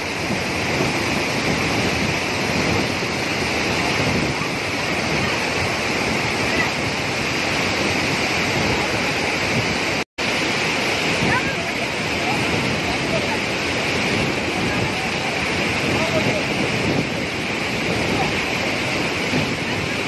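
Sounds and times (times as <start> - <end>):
waterfall rushing over boulders: 0.0 - 20.0.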